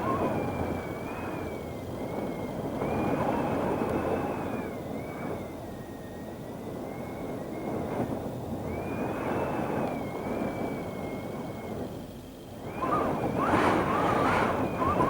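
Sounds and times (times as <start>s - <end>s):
strong gusting wind: 0.0s - 15.0s
wind whistling: 0.0s - 15.0s.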